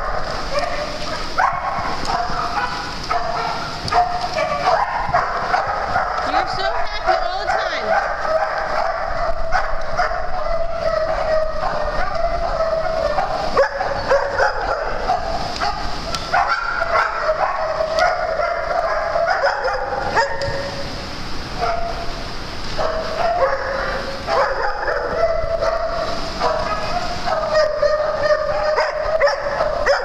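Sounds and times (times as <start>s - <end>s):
dogs barking: 0.0s - 30.0s.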